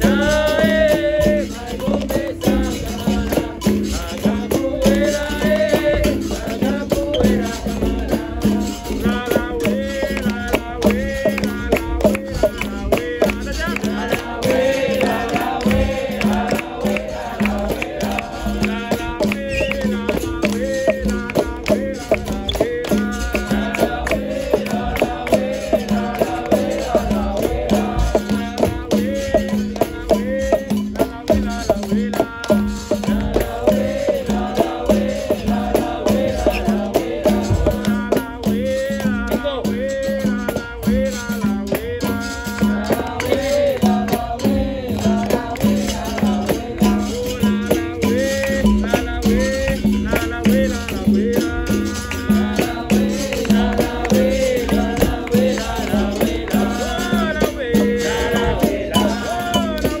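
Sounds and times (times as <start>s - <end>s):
people singing: 0.0s - 60.0s
percussion strikes: 0.0s - 60.0s
shaker rattle: 0.0s - 60.0s.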